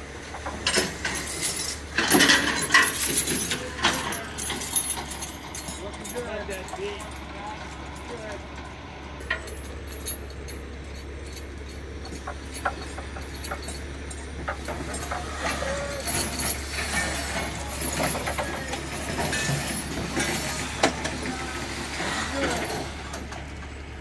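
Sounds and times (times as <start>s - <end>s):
low engine hum: 0.0s - 24.0s
steel wheels creaking and clicking: 0.0s - 24.0s.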